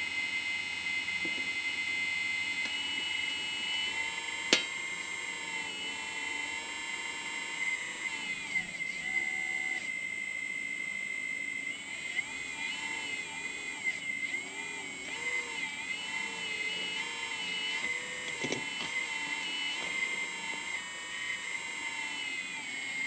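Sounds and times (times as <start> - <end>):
hydraulic pump whine: 0.0 - 23.0.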